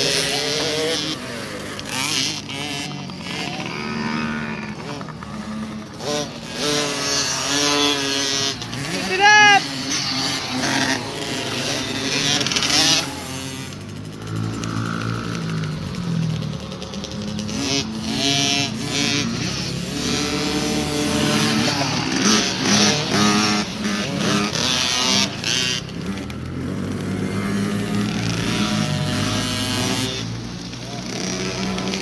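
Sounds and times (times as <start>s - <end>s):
pit bike engines revving: 0.0s - 32.0s.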